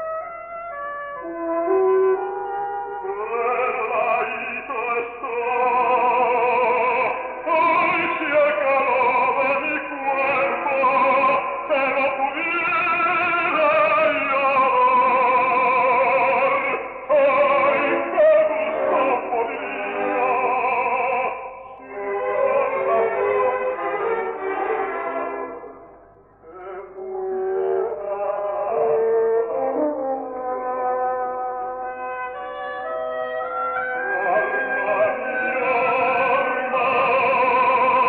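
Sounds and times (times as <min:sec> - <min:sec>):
operatic singing: 0:03.0 - 0:25.8, 0:26.4 - 0:30.6, 0:34.0 - 0:38.0.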